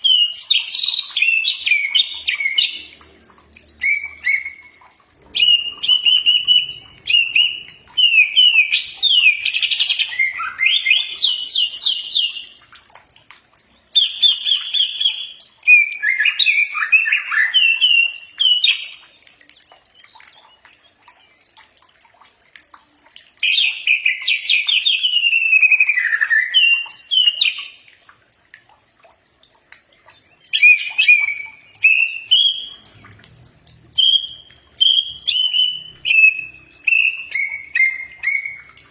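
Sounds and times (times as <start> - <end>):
bird chirping and trilling: 0.0 - 12.6, 13.9 - 21.6, 23.4 - 27.8, 30.0 - 33.0, 33.9 - 38.9.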